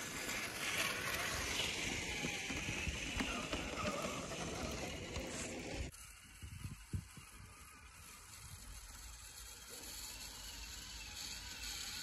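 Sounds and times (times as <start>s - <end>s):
rc truck electric motor running: 0.0s - 12.0s.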